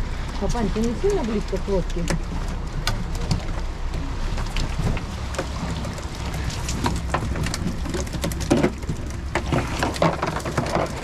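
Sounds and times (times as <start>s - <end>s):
steady low rumble: 0.0s - 11.0s
water dripping and splashing: 0.0s - 11.0s.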